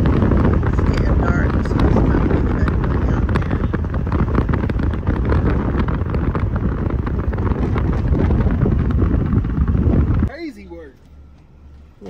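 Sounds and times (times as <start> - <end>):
low road rumble: 0.0 - 12.0
wind buffeting microphone: 0.0 - 12.0.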